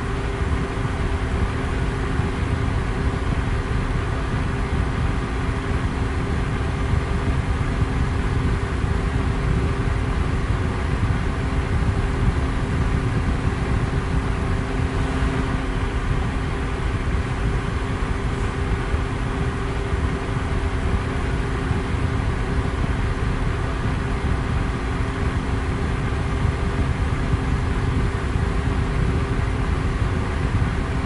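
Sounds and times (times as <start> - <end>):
electric fan running: 0.0 - 31.0.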